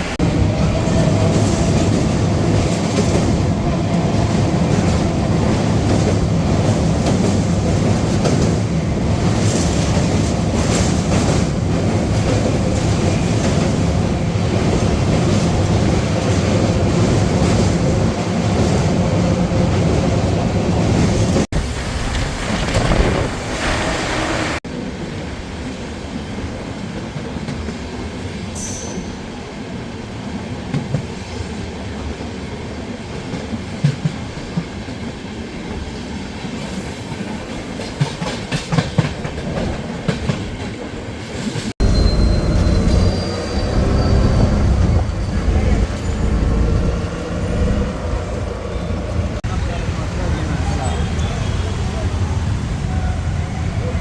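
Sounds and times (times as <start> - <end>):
train rumbling on track: 0.0 - 54.0.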